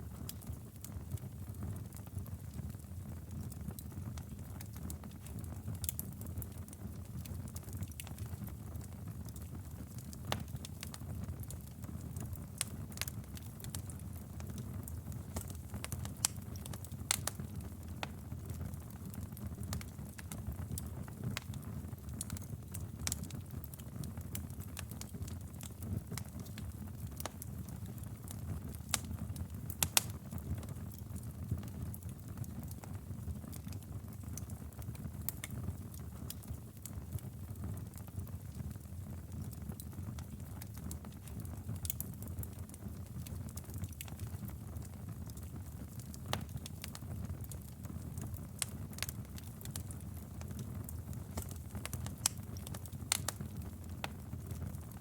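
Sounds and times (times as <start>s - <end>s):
fire crackling and popping: 0.0s - 55.0s
fire flames rumbling: 7.6s - 55.0s.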